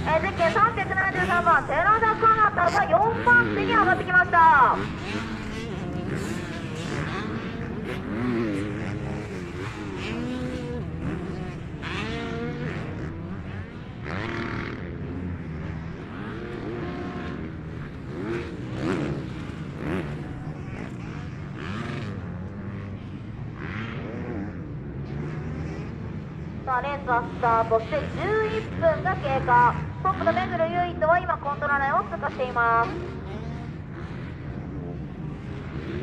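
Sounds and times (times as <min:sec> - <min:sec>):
motocross bike engines revving: 0:00.0 - 0:36.0.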